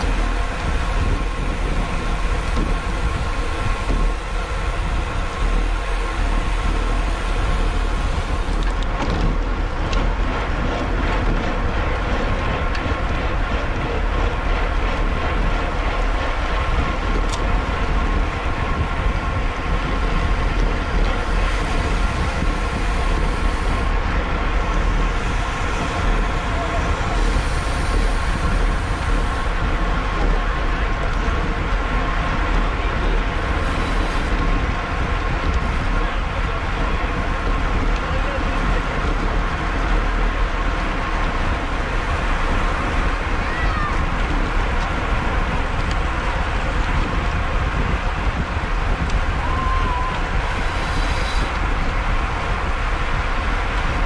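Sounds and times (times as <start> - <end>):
low road rumble: 0.0 - 54.0
wind buffeting microphone: 0.0 - 54.0.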